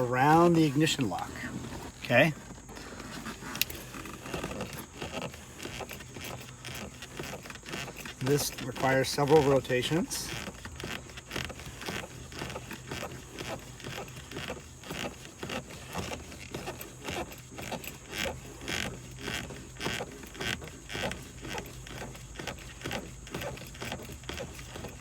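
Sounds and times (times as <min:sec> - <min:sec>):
light metallic clicks and scrapes: 0:00.0 - 0:25.0.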